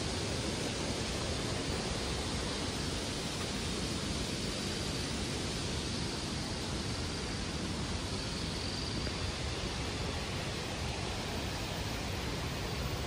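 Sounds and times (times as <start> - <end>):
large waterfall rushing: 0.0 - 13.0.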